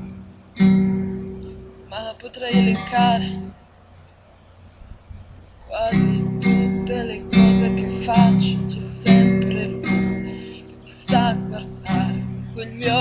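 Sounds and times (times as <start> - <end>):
acoustic guitar strummed chords: 0.0 - 3.7, 5.5 - 13.0.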